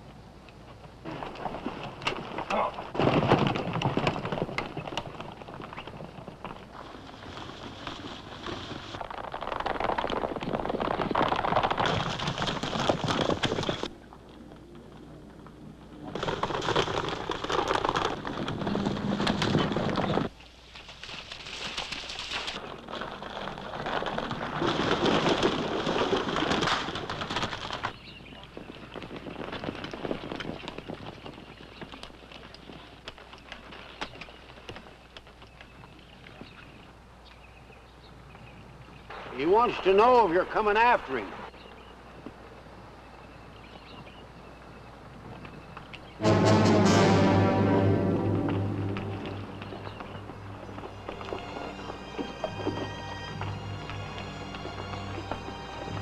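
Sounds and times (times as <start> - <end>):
horses galloping hooves: 0.0 - 46.3, 47.5 - 56.0.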